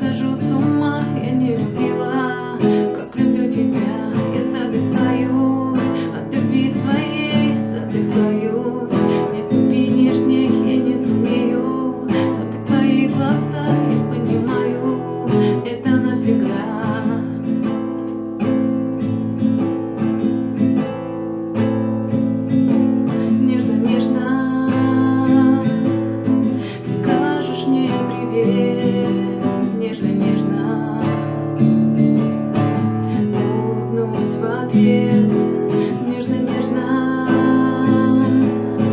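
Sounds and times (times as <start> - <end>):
person singing: 0.0 - 17.9, 23.0 - 31.8, 32.8 - 38.9
acoustic guitar strumming: 0.0 - 38.9.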